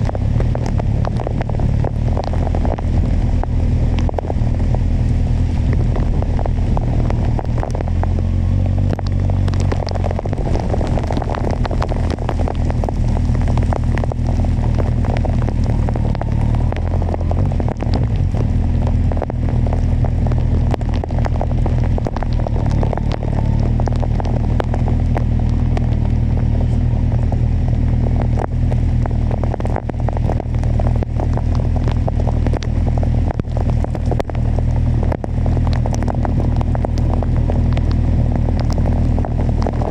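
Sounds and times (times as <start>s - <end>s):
motorcycle engine cruising: 0.0s - 39.9s
rain hitting camera: 0.0s - 39.9s
wind rush: 0.0s - 39.9s.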